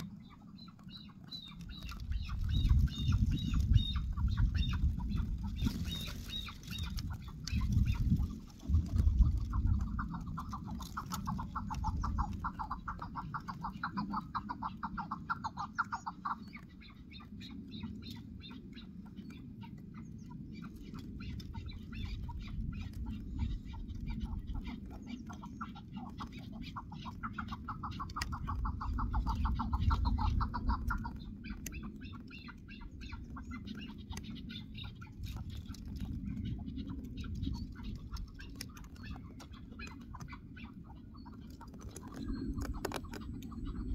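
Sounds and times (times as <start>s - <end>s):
low rumble: 0.0s - 43.9s
partridge calling: 0.0s - 43.9s.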